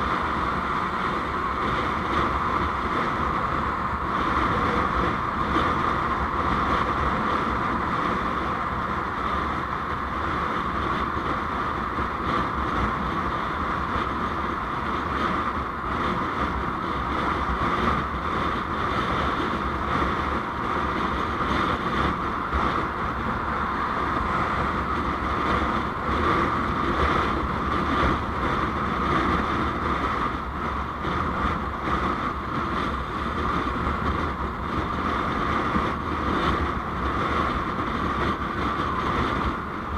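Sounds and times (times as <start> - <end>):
vehicle road noise: 0.0 - 39.9
wind buffeting microphone: 0.0 - 39.9.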